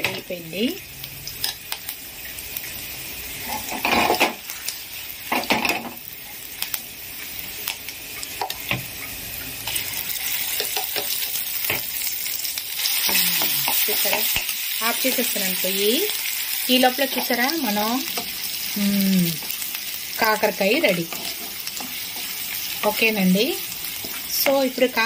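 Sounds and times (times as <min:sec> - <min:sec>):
spices sizzling in hot oil: 0:00.0 - 0:25.0.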